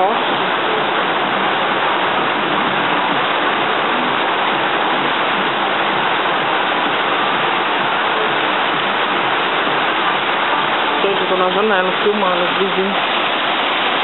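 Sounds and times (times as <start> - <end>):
heavy rain on roof: 0.0 - 14.0.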